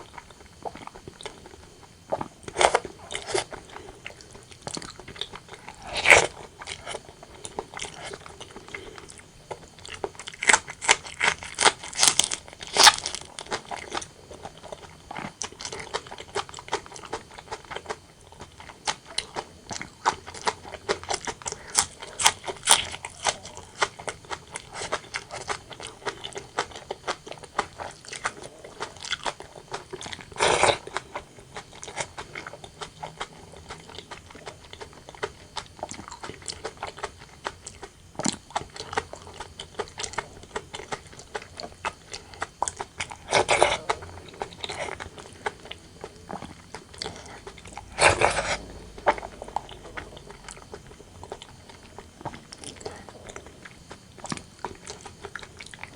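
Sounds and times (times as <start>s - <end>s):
person chewing and biting food: 0.0s - 55.9s.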